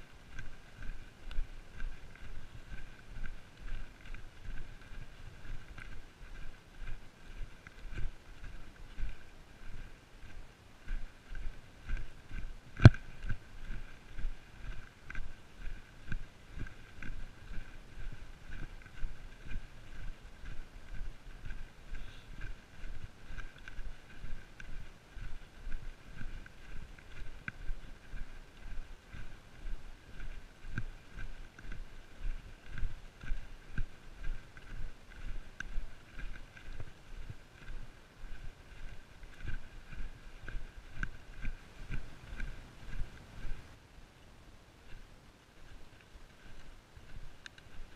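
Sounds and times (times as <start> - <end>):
footsteps on grass: 0.0 - 43.8, 44.8 - 47.9
trekking poles clicking: 0.2 - 43.8, 44.9 - 47.9.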